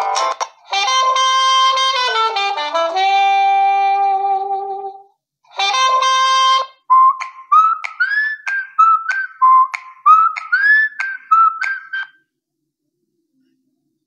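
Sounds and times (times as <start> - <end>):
reedy instrumental music: 0.0 - 12.0.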